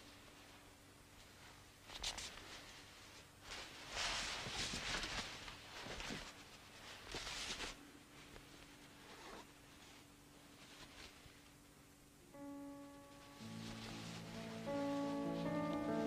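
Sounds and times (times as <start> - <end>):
rustling clothing movement: 0.0 - 11.9, 13.0 - 16.0.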